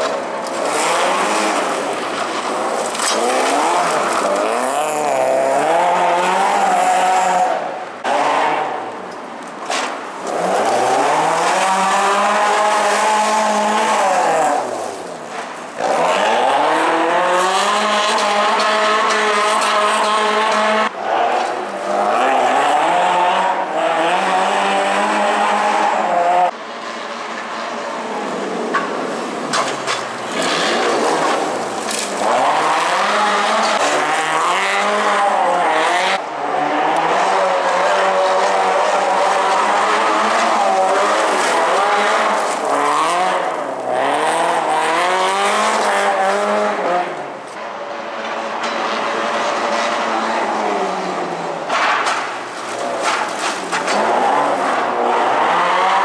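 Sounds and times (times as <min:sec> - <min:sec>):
rally car engine revving: 0:00.0 - 0:09.0, 0:09.7 - 0:56.0
tyres skidding on gravel: 0:00.0 - 0:22.9, 0:28.7 - 0:36.2, 0:37.1 - 0:47.6, 0:49.0 - 0:56.0.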